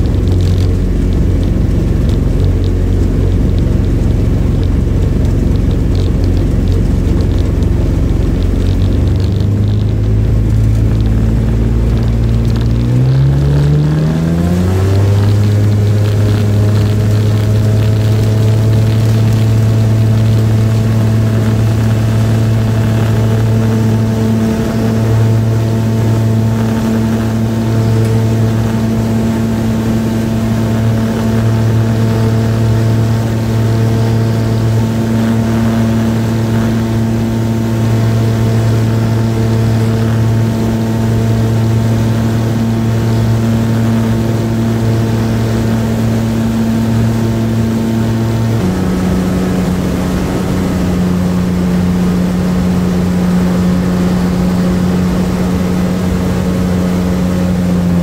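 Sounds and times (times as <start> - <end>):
microlight engine and propeller: 0.0 - 58.0.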